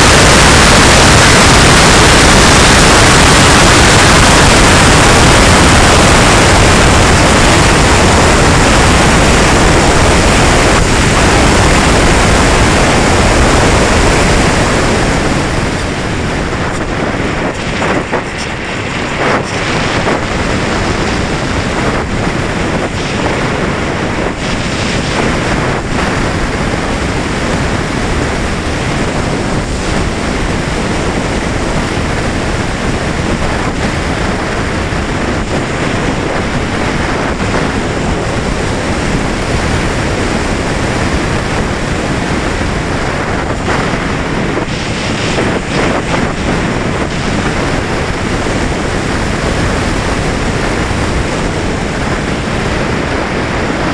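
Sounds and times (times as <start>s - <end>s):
airflow buffeting microphone: 0.0s - 53.9s.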